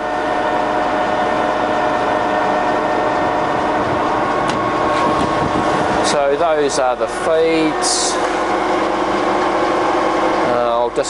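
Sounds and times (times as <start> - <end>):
lathe running with whine: 0.0 - 11.0.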